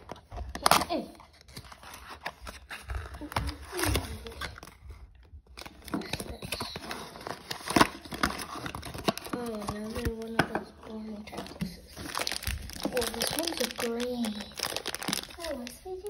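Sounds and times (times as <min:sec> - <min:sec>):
cardboard box crinkling and tearing: 0:00.0 - 0:05.0, 0:05.6 - 0:16.0.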